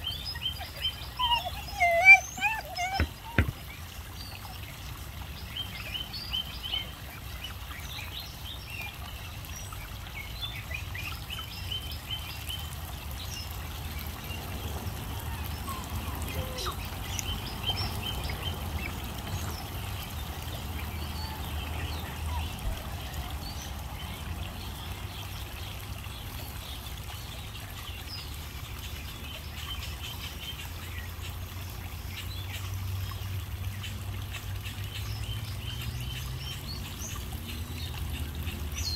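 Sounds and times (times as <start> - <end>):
faint trickle of water: 0.0 - 38.9.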